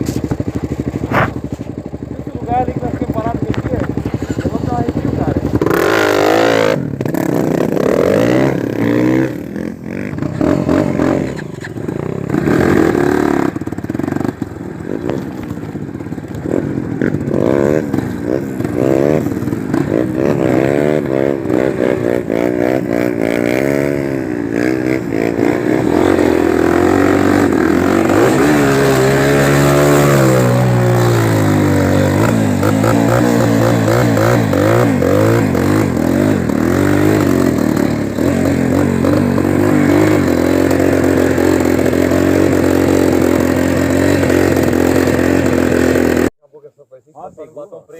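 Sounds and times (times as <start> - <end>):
motorcycle engine revving: 0.0 - 46.4.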